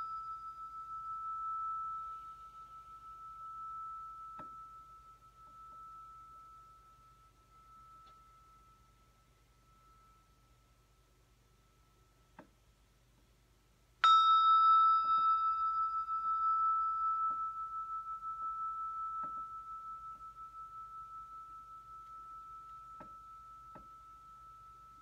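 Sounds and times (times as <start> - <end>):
hand bell ringing: 0.0 - 10.5, 14.0 - 25.0.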